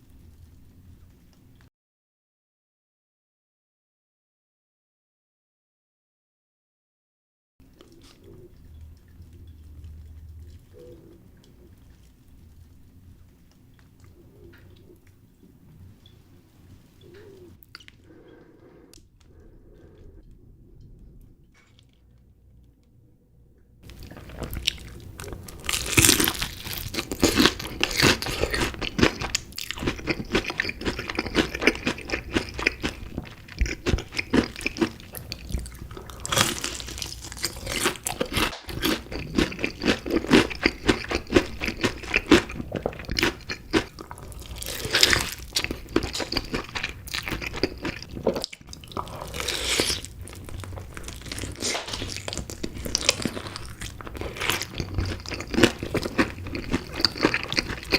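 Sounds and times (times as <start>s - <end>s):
crunching and chewing food: 7.6s - 22.7s, 23.8s - 57.9s.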